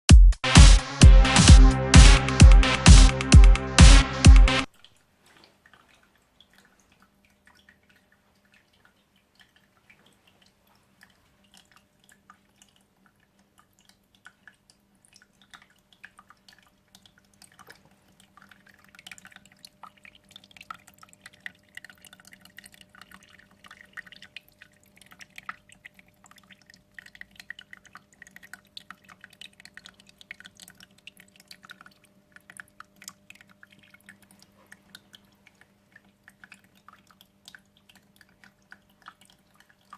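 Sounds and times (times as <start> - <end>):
small waterfall trickling: 4.6 - 39.9
faint steady hum: 4.7 - 39.9.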